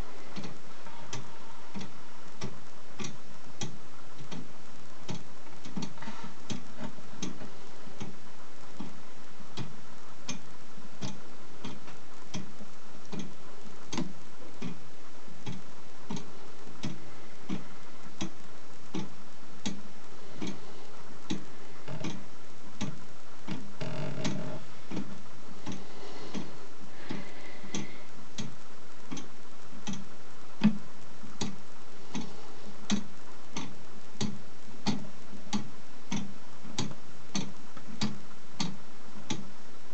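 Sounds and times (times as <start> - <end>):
clock ticking: 0.0 - 39.6.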